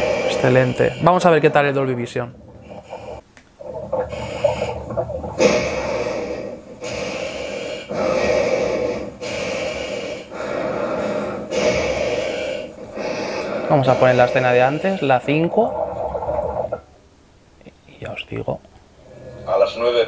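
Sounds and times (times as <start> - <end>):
heavy rhythmic breathing: 0.0 - 17.0, 18.9 - 20.0.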